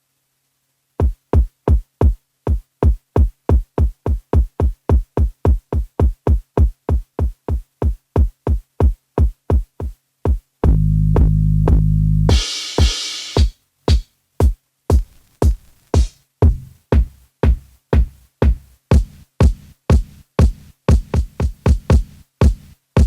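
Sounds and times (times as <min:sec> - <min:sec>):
electronic kick drum thumps: 0:01.0 - 0:23.0.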